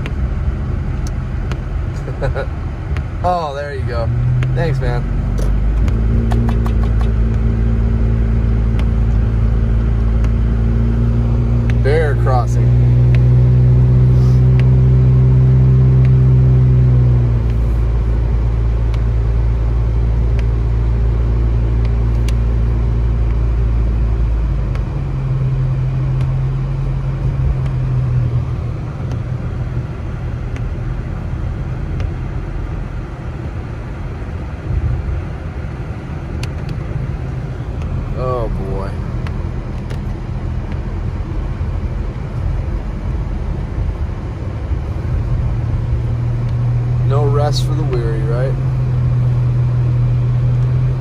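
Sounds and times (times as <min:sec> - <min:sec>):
car engine hum: 0:00.0 - 0:51.0
road noise inside car: 0:00.0 - 0:51.0.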